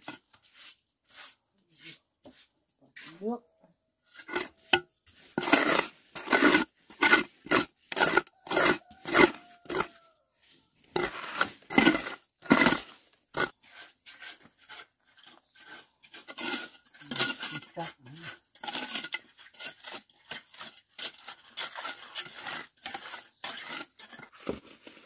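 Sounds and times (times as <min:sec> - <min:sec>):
trowel scraping cement mortar: 0:04.0 - 0:25.0.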